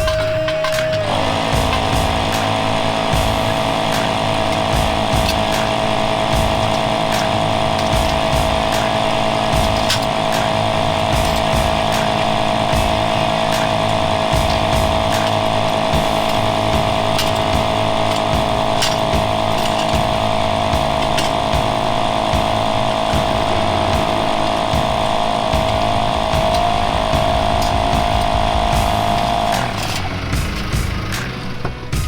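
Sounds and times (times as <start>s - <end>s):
small motor running steadily: 0.0s - 32.0s.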